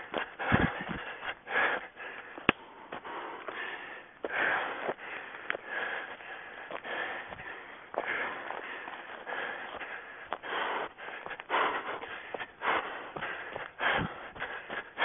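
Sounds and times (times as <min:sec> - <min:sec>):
runner breathing hard: 0:00.0 - 0:15.0.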